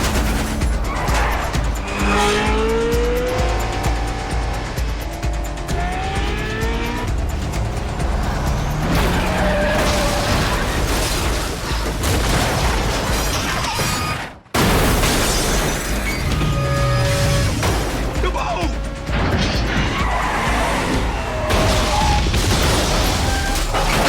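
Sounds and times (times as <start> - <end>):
car engines revving: 0.0 - 11.9, 16.2 - 24.0
tyres skidding: 0.0 - 12.0, 15.7 - 24.0
action film music: 0.0 - 24.0.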